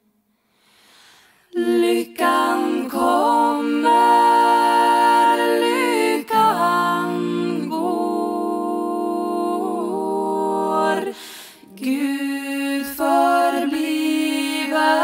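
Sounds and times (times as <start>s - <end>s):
women singing in harmony: 1.5s - 15.0s.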